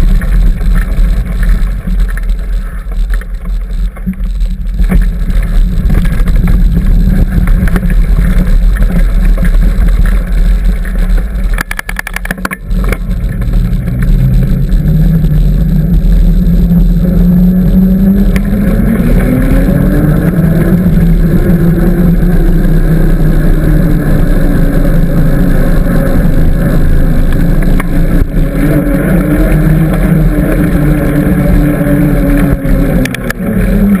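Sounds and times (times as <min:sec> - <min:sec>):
pitched hum: 0:00.0 - 0:34.0
wind rushing over microphone: 0:00.0 - 0:34.0.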